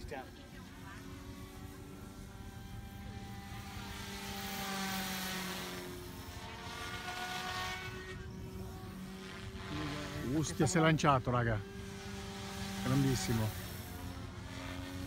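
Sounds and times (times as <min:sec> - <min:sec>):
model helicopter rotor whine: 0:00.0 - 0:15.0.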